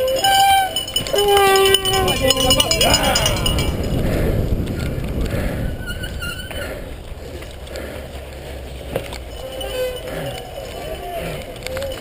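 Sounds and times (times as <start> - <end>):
bike rattling over rough dirt: 0.0 - 12.0
wind on microphone: 0.4 - 12.0.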